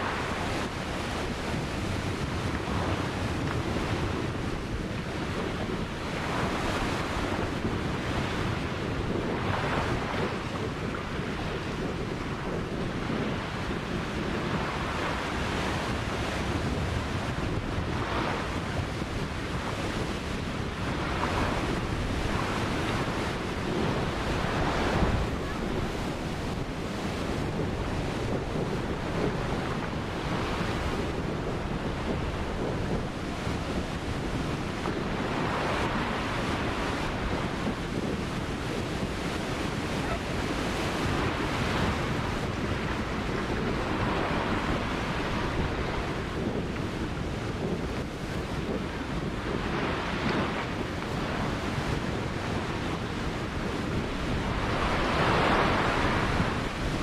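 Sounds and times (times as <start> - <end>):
ocean surf breaking on shore: 0.0 - 57.0
wind on microphone: 0.0 - 57.0.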